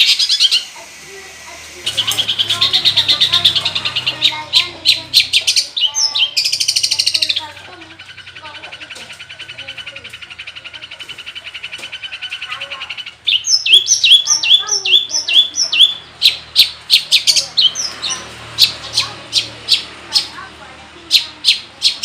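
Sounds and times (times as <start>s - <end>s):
shrike singing: 0.0s - 22.0s.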